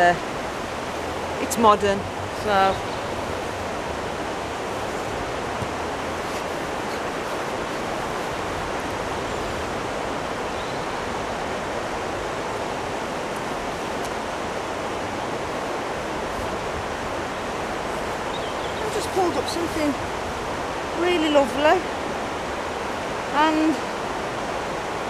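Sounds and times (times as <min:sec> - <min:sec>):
river water rushing over weir: 0:00.0 - 0:25.0.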